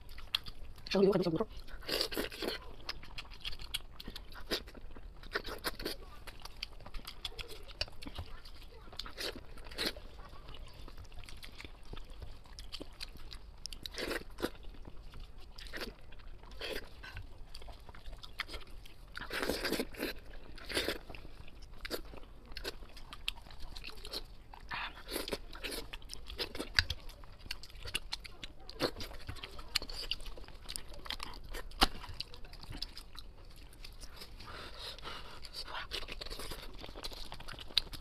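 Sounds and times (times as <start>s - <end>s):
chewing and crunching meat: 0.0s - 38.0s.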